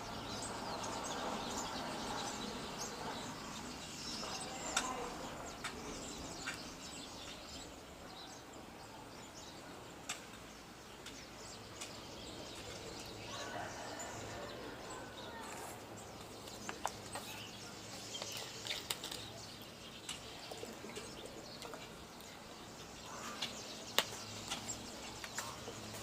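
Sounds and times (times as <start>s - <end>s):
outdoor ambient hiss: 0.0s - 26.0s
small birds chirping: 0.0s - 26.0s.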